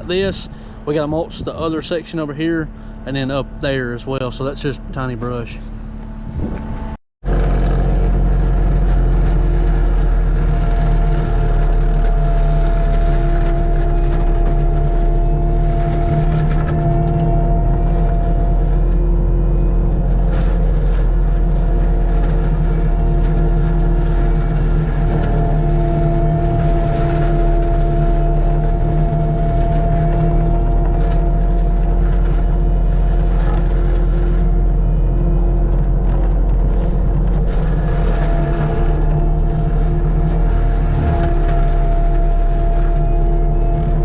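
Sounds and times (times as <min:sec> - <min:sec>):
diesel engine running at high speed: 0:00.0 - 0:44.0
high steady whine: 0:00.0 - 0:44.0.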